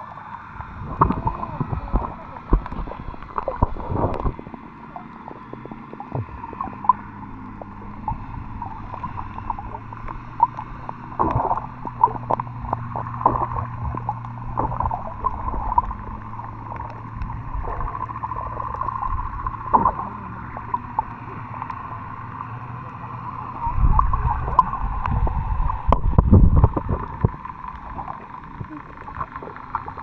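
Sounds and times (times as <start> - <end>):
underwater water rumble and gurgling: 0.0 - 30.0
underwater clicks: 0.6 - 30.0.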